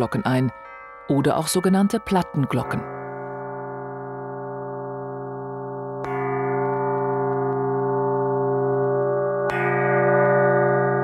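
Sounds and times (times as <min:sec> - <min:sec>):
plate bell ringing: 0:00.0 - 0:11.0.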